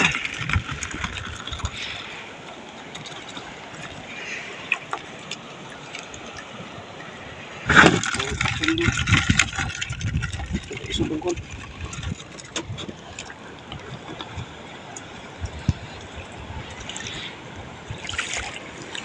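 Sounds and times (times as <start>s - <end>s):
water lapping against boat: 0.0s - 19.0s.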